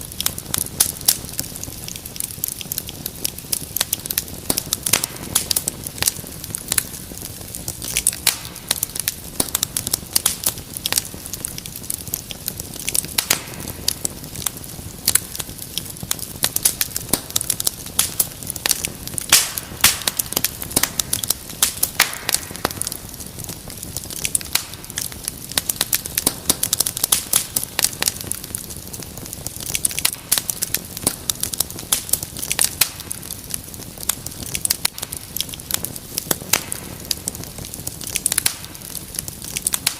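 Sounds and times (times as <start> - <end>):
fire hiss: 0.0 - 39.9
wood fire crackling: 0.0 - 39.9.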